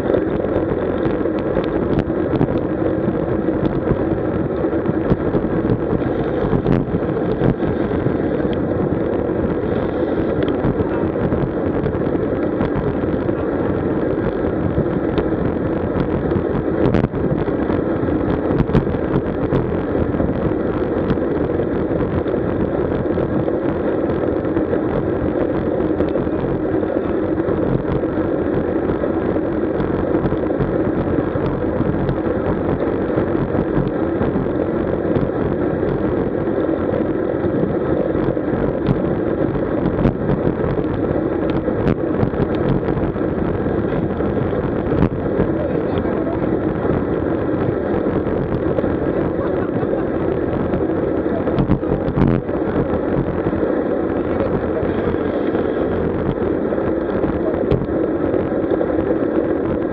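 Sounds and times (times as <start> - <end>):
rushing wind and road noise: 0.0 - 59.9.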